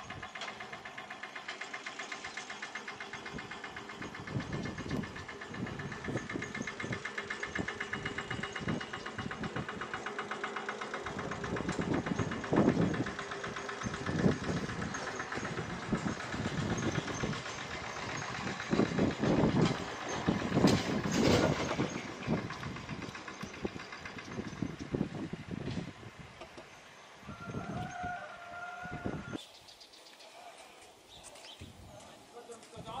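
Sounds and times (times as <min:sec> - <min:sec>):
engine running with rhythmic beat: 0:00.0 - 0:29.4.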